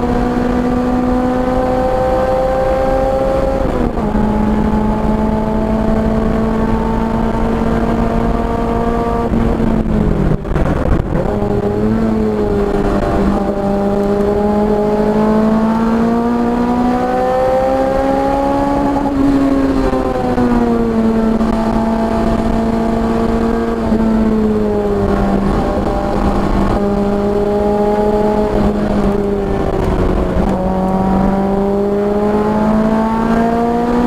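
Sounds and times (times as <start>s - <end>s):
racing car engine: 0.0s - 34.0s.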